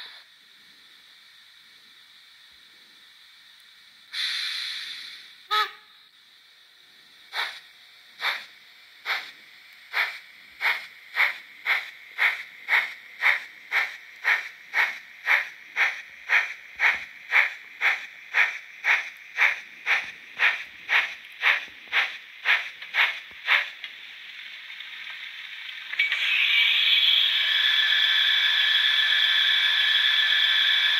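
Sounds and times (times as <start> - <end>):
steady steam hiss: 0.0 - 5.5, 6.1 - 30.9
steam locomotive chuffs: 4.1 - 5.7, 7.2 - 30.9.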